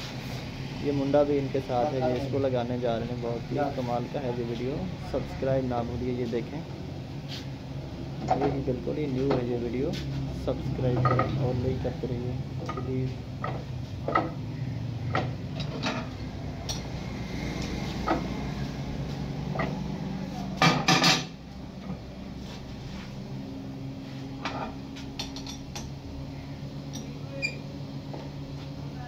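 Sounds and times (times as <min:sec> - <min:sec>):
low machine hum: 0:00.0 - 0:29.0.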